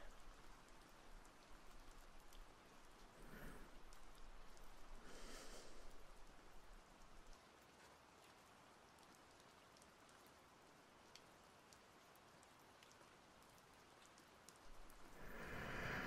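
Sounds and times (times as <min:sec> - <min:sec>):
rain drops ticking: 0:00.0 - 0:16.0
soft rain hiss: 0:00.0 - 0:16.0.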